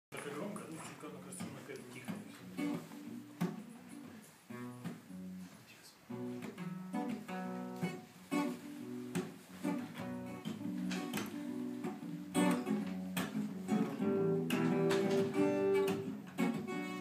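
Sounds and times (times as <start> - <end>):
acoustic guitar strumming chords: 1.2 - 17.0.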